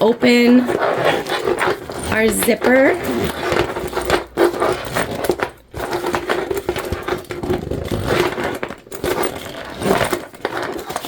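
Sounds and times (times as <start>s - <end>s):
vinyl scraping and rubbing: 0.0s - 11.0s
zipper sliding open: 0.0s - 11.0s.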